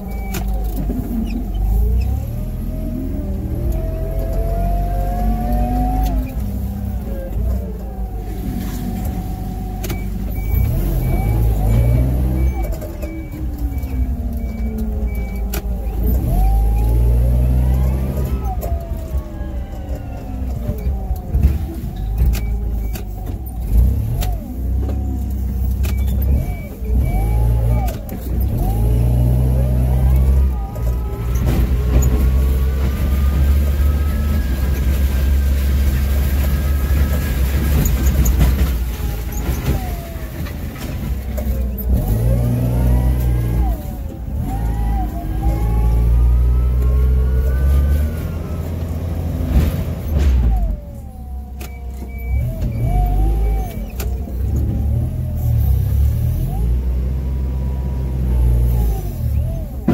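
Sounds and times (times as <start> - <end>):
forklift engine droning and whining: 0.0 - 59.9.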